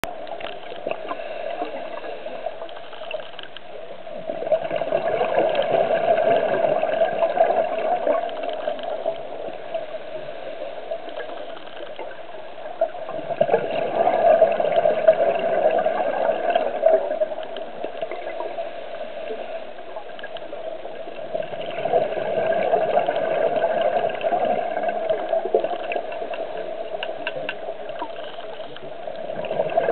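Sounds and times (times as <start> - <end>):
underwater bubbles gurgling: 0.0 - 29.9.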